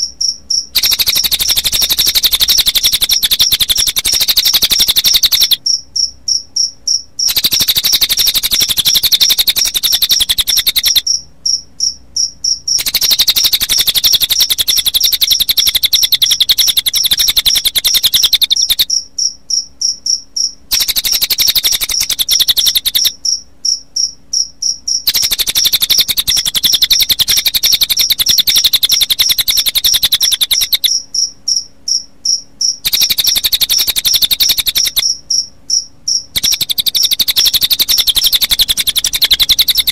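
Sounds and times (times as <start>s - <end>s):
bird twittering: 0.0s - 39.9s
cricket chirping: 0.0s - 39.9s.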